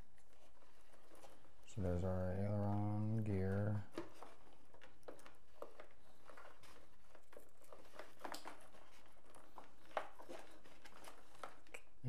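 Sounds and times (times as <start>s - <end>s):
wires rustling: 0.0s - 12.0s.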